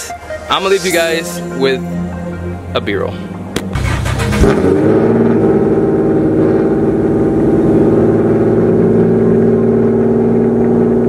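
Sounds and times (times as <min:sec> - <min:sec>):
car engine running steadily: 0:00.9 - 0:11.0.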